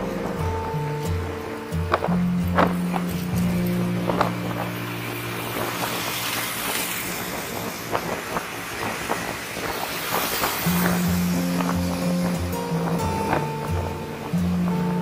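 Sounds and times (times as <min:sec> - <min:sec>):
street traffic rush: 0:00.0 - 0:15.0.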